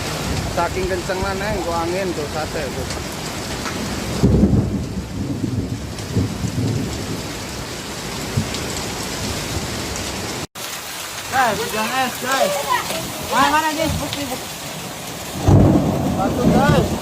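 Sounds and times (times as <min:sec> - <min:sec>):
thunder rumbling: 0:00.0 - 0:10.4, 0:12.4 - 0:17.0
hail and heavy rain: 0:00.0 - 0:17.0.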